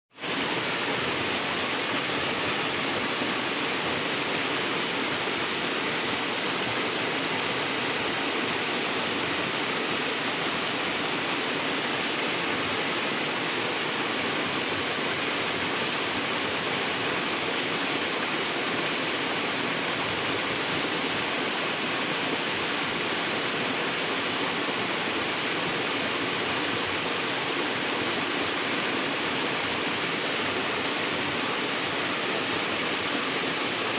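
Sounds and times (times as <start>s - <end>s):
waterfall and river rushing: 0.2s - 33.9s.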